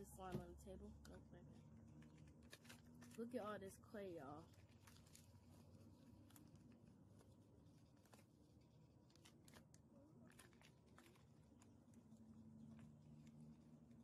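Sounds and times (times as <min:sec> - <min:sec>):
hands rustling plastic packet: 0:01.9 - 0:03.5, 0:04.3 - 0:14.0.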